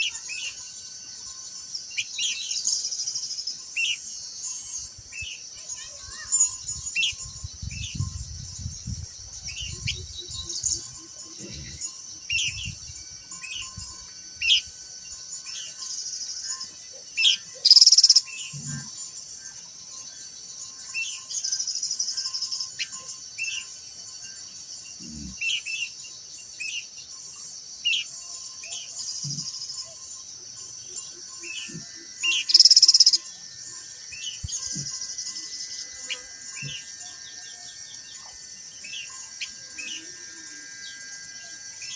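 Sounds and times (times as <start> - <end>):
bird chirping: 0.0 - 41.9
insect drone: 0.0 - 41.9.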